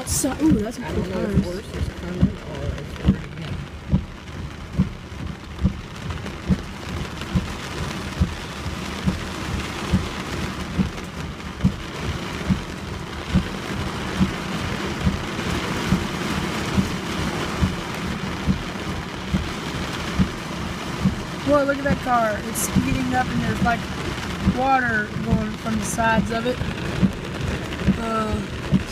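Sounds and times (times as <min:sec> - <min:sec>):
heavy rain hissing: 0:00.0 - 0:28.9
regular low thump: 0:00.1 - 0:28.9.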